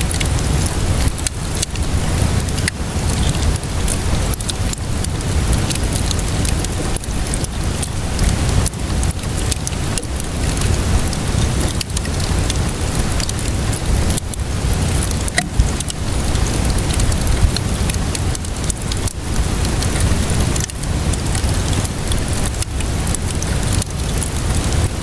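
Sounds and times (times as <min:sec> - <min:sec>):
steady rainfall: 0:00.0 - 0:25.0
wood fire crackling: 0:00.0 - 0:25.0.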